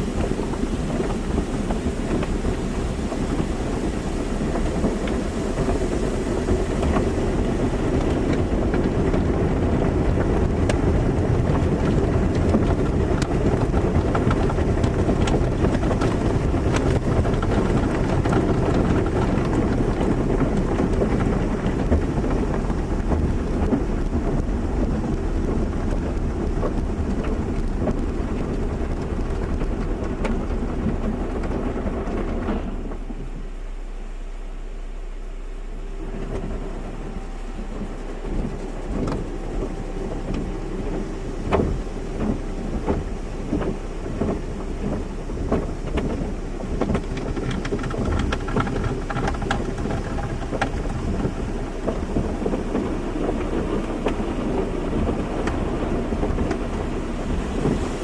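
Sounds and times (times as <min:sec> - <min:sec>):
car wash water spray: 0:00.0 - 0:58.0
low hum: 0:00.0 - 0:58.0.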